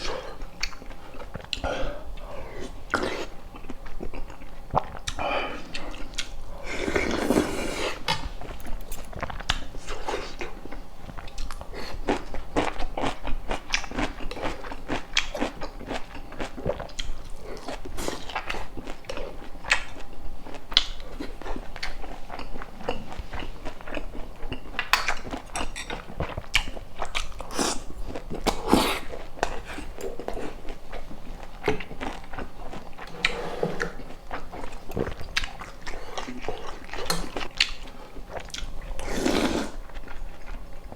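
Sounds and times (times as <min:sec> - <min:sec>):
close-up chewing with crunches: 0:00.0 - 0:40.9.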